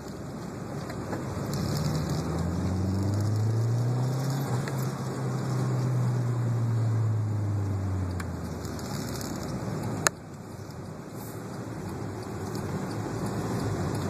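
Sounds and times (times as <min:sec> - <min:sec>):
turbocharged car engine: 0:00.0 - 0:14.0.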